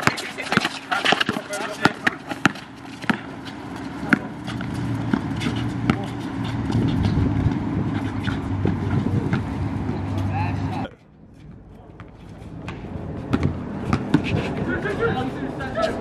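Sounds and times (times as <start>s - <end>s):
basketball bouncing on asphalt: 0.0s - 10.3s, 11.9s - 14.6s
low vehicle rumble: 2.6s - 16.0s.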